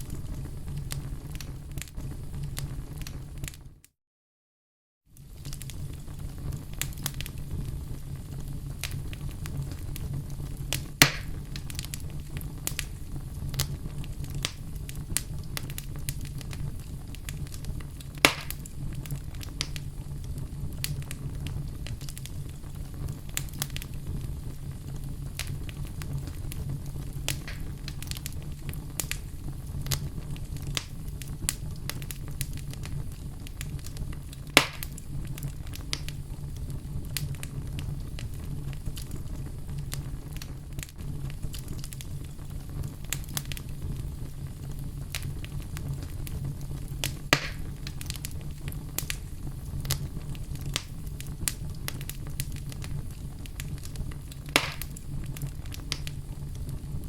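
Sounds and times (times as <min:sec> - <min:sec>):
loud pops from fire: 0:00.0 - 0:03.6, 0:05.2 - 0:57.0
wood fire crackling: 0:00.0 - 0:03.8, 0:05.1 - 0:57.0.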